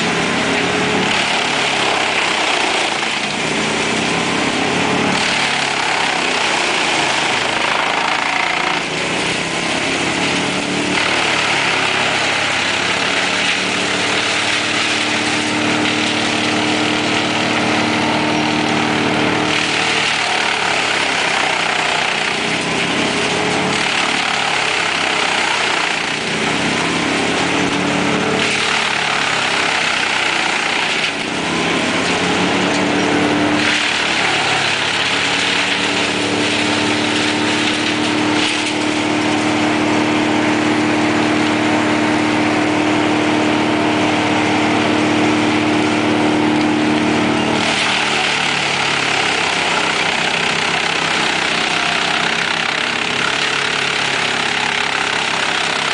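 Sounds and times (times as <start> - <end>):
engine hum: 0.0 - 55.9
wood chipper rushing noise: 0.0 - 55.9.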